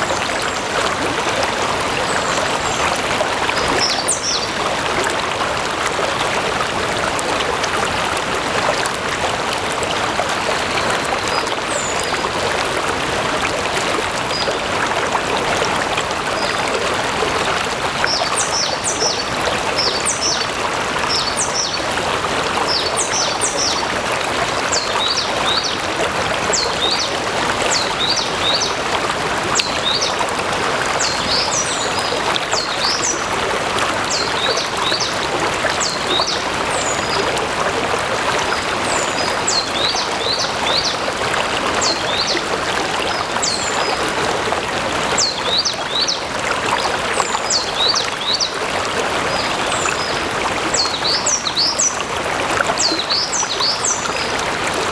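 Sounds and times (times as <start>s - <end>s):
stream water flowing and splashing: 0.0s - 54.9s.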